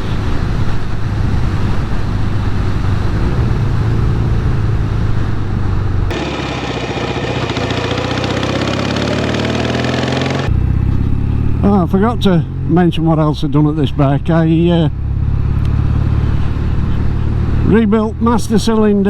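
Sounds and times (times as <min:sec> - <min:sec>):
motorcycle engine running: 0:00.0 - 0:18.3.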